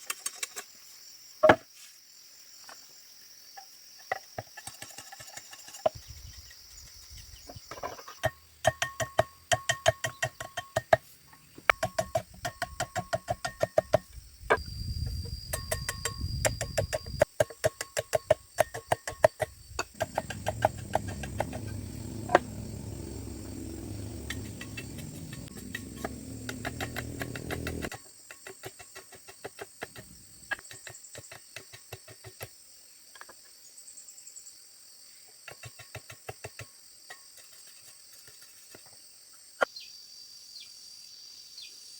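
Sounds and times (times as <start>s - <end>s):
crickets chirring: 0.0s - 41.9s.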